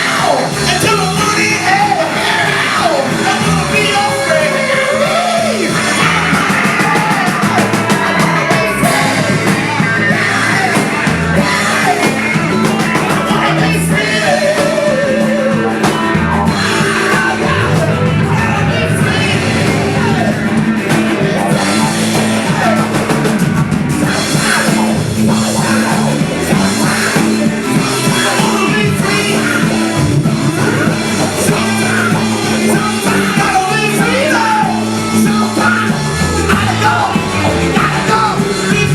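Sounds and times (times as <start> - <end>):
person singing: 0.0 - 23.3, 24.0 - 38.9
live rock band playing: 0.0 - 38.9.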